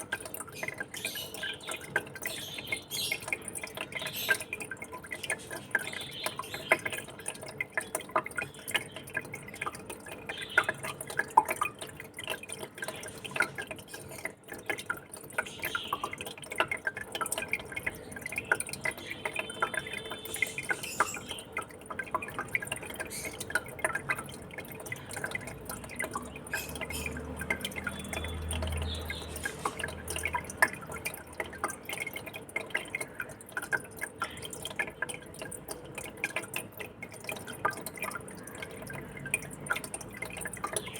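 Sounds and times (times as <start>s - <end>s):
aquarium water trickling and dripping: 0.0s - 40.9s.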